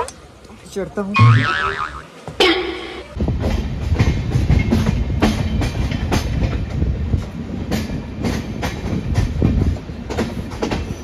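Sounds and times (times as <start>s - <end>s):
train rumbling on rails: 2.0s - 11.0s
wheels clacking over rail joints: 2.1s - 11.0s.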